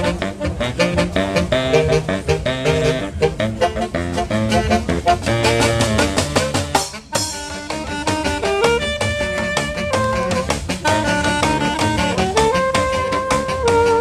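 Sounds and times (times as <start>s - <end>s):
live band with saxophones: 0.0s - 14.0s.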